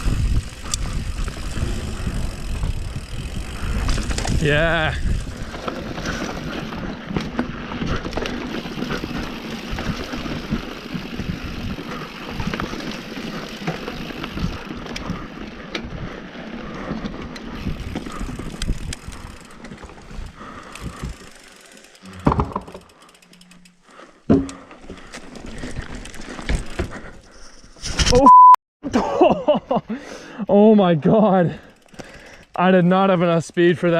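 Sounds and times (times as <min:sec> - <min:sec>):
bike rattles and clicks: 0:00.0 - 0:28.1, 0:31.4 - 0:33.9
bike tyres rolling on dirt: 0:00.0 - 0:28.1, 0:31.2 - 0:33.9.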